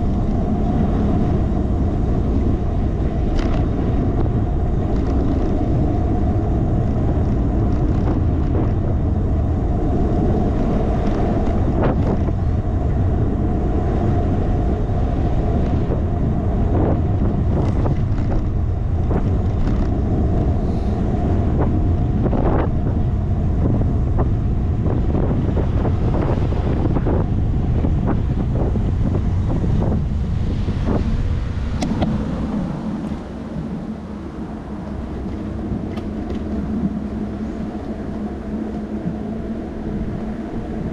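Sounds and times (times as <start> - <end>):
wind buffeting camera: 0.0 - 40.9.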